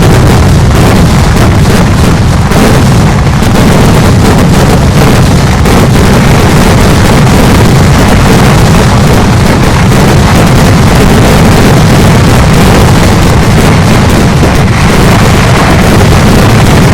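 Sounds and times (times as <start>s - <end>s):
fireworks barrage: 0.0s - 16.9s.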